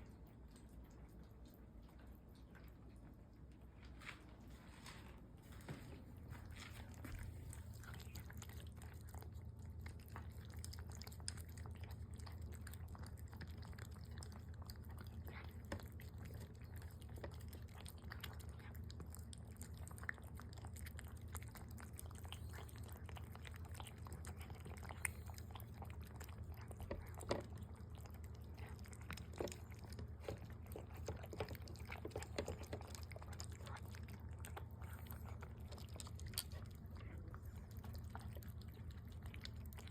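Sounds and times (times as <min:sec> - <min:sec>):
cats chewing: 0:00.0 - 0:39.9
steady low hum: 0:00.0 - 0:39.9.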